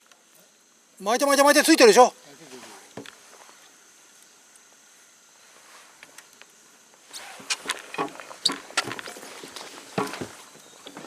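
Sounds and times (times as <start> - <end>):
thin high hiss: 0.0 - 11.0.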